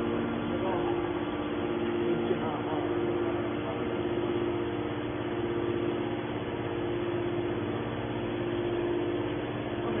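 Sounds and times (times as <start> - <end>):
baler motor and pump humming: 0.0 - 10.0.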